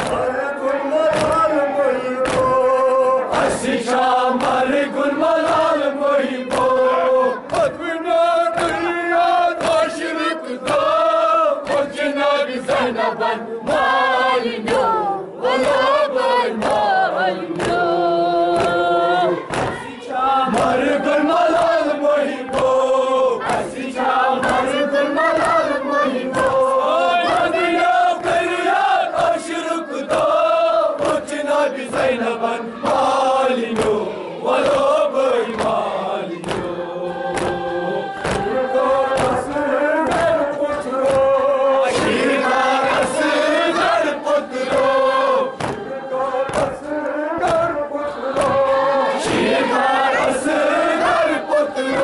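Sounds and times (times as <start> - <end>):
hands slapping chests: 0.0 - 0.4, 1.0 - 4.8, 5.4 - 5.8, 6.4 - 11.0, 11.6 - 12.0, 14.6 - 17.9, 18.5 - 52.0
men chanting in unison: 0.0 - 52.0.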